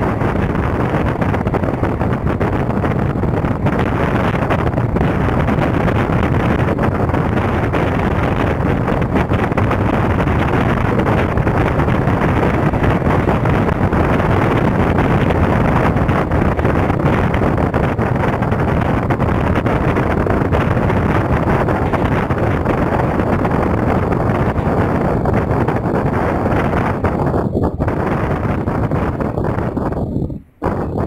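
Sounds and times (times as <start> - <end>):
train wheels rumbling on rails: 0.0 - 31.0
wind rushing over microphone: 0.0 - 31.0.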